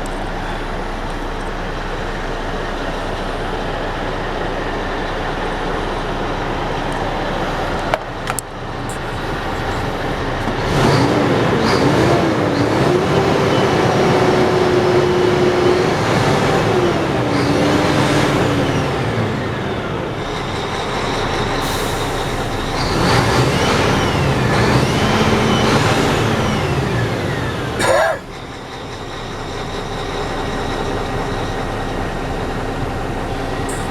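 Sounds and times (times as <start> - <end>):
diesel truck engine revving: 0.0 - 33.9.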